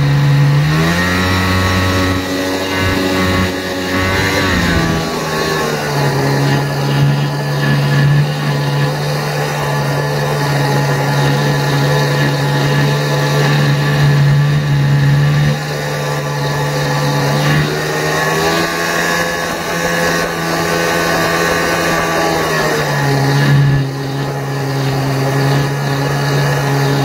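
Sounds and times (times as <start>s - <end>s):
loud unmuffled boat engine: 0.0s - 27.0s.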